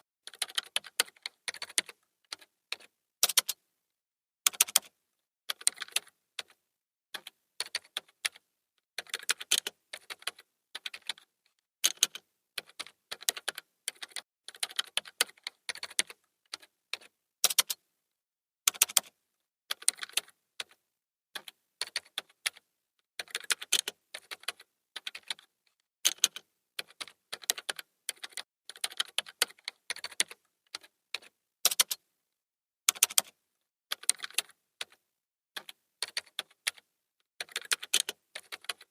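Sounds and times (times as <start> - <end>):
keyboard typing: 0.2 - 3.6, 4.5 - 6.6, 7.2 - 8.4, 9.0 - 17.8, 18.7 - 20.8, 21.4 - 25.5, 26.1 - 32.0, 32.9 - 35.0, 35.6 - 38.9.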